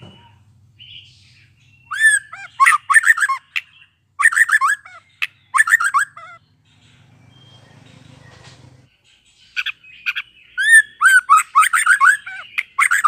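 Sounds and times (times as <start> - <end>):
bird singing sweeping notes: 0.0 - 13.0.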